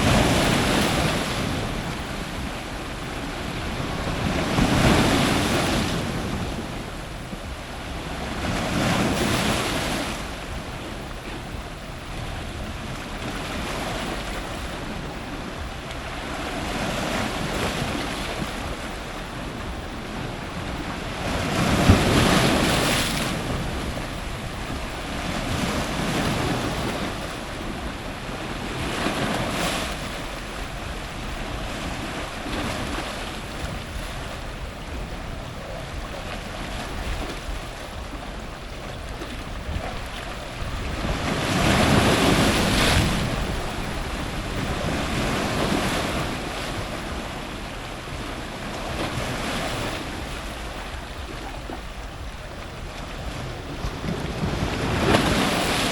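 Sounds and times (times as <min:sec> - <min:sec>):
ocean surf breaking on rocks: 0:00.0 - 0:55.9.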